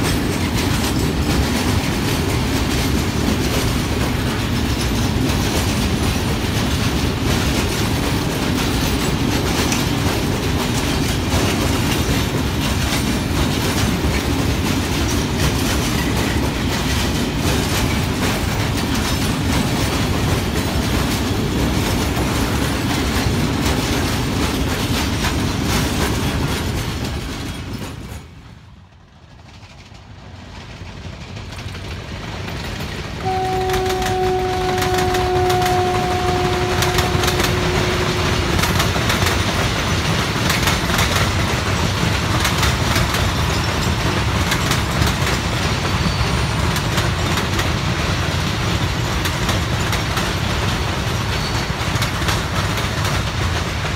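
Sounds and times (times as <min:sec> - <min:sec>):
wheels clattering over rail joints: 0:00.0 - 0:28.6, 0:29.2 - 0:53.9
freight train rolling past: 0:00.0 - 0:53.9.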